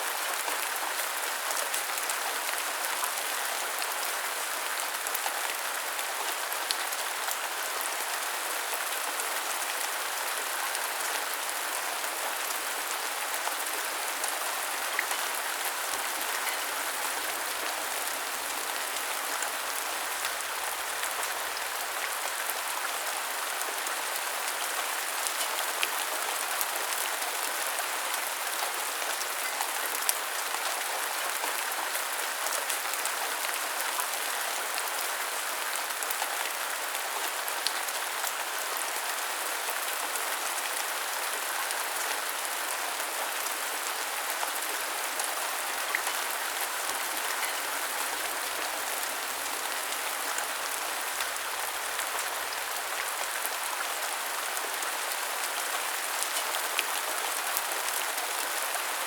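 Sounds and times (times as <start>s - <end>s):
steady rain on hard surfaces: 0.0s - 59.0s.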